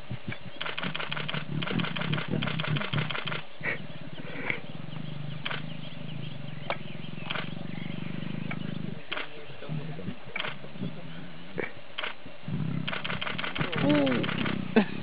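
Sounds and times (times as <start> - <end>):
lion growling: 0.4 - 11.8, 12.4 - 15.0.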